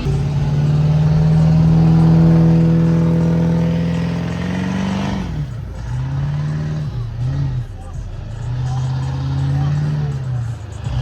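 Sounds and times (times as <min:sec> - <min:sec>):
vehicle engine at high revs: 0:00.0 - 0:11.0.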